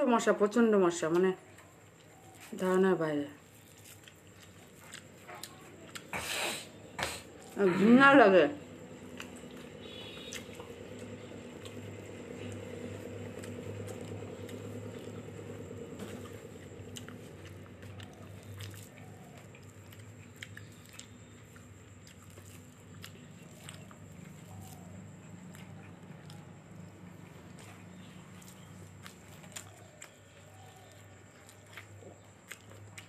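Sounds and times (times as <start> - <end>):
low steady hum: 0.0 - 33.0
person chewing food: 1.6 - 2.8, 3.4 - 7.6, 8.6 - 33.0.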